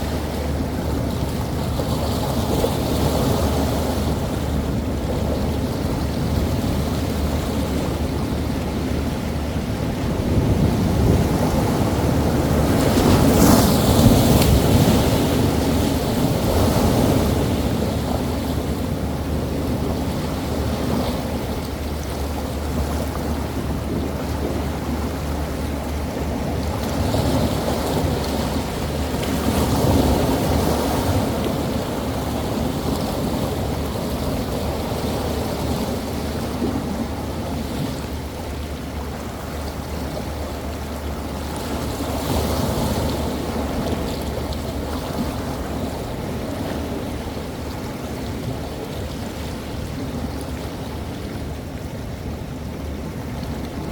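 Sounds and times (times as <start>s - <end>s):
waves breaking on shore: 0.0s - 53.9s
wind on microphone: 0.0s - 53.9s.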